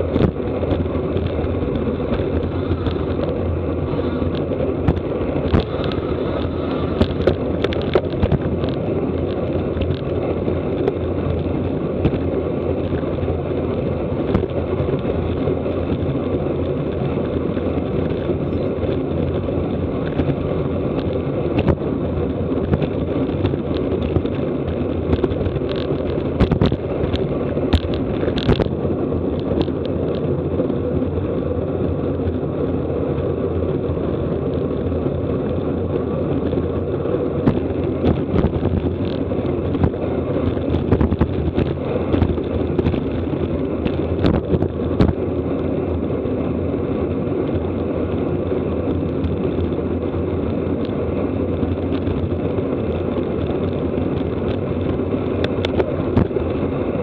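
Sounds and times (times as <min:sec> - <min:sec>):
road rumble: 0:00.0 - 0:57.0
wind on microphone: 0:00.0 - 0:57.0.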